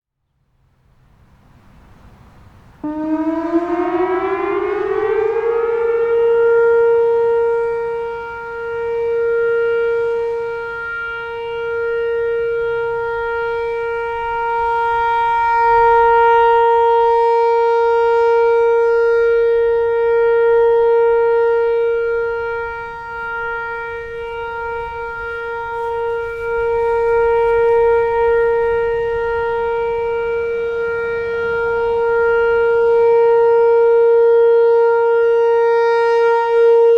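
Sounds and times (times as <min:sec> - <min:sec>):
electronic warning siren tone: 0:02.5 - 0:36.9.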